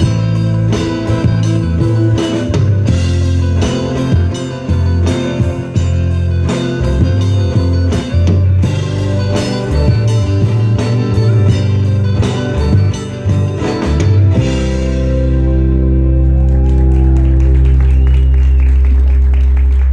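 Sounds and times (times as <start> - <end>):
drum kit beat: 0.0 - 18.2
live band playing: 0.0 - 19.9.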